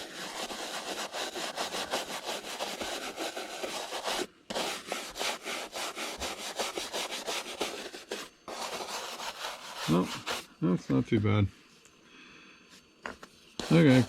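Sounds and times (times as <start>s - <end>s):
brush scrubbing plastic: 0.0s - 10.5s, 13.0s - 14.0s.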